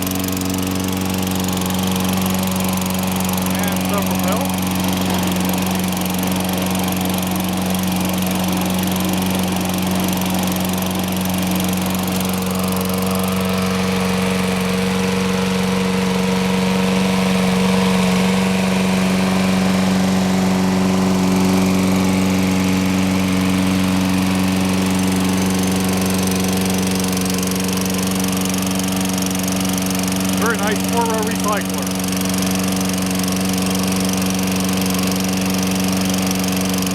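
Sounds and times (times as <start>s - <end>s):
lawn mower engine running: 0.0s - 36.9s.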